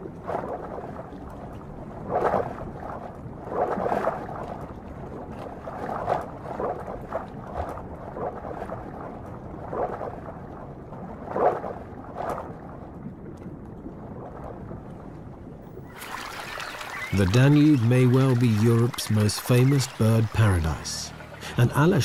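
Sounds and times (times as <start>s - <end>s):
water splashing and bubbling: 0.0s - 22.0s.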